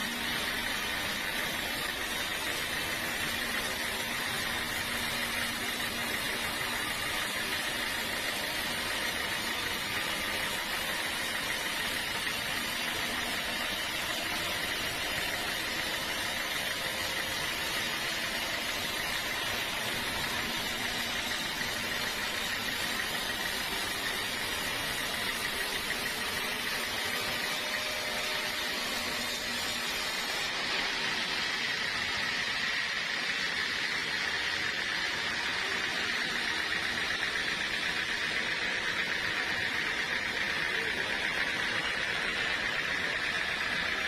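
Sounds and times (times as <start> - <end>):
sawmill saw running: 0.0 - 44.0.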